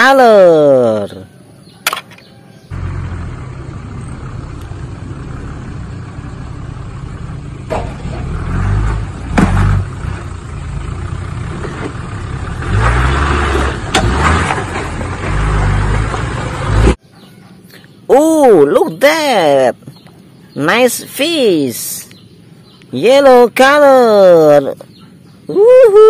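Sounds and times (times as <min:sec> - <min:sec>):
engine rumbling under load: 0:00.0 - 0:26.0.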